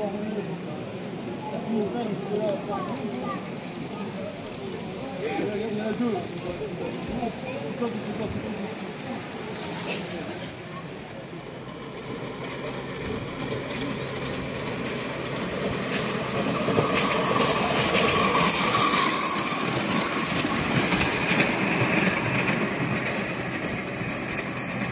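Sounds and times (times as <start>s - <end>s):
miniature train wheels rumbling: 1.6s - 24.9s.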